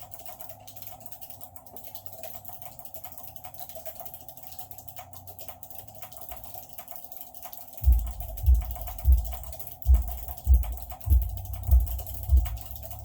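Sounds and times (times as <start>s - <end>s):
fast keyboard typing clicks: 0.0s - 13.0s.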